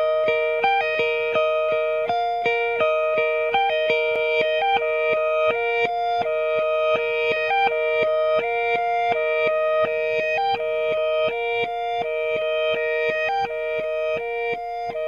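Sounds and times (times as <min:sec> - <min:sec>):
held drone note: 0:00.0 - 0:15.0
repeating melodic riff: 0:00.0 - 0:15.0.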